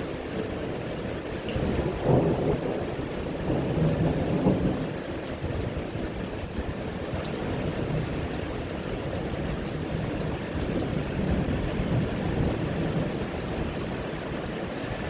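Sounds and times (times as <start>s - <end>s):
steady rain falling: 0.0s - 15.0s
low thunder rumble: 1.6s - 13.9s.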